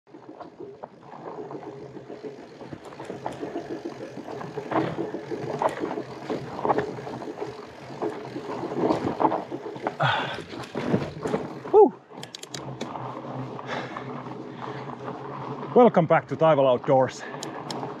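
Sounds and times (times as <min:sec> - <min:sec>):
bike clicks and rattles: 0:00.1 - 0:18.0
bike tyres rumbling on ground: 0:00.1 - 0:18.0.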